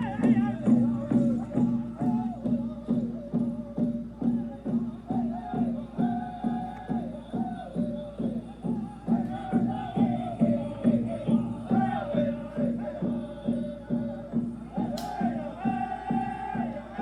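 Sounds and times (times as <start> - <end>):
music with fast beat: 0.0 - 17.0
wavering vocal line: 0.0 - 17.0.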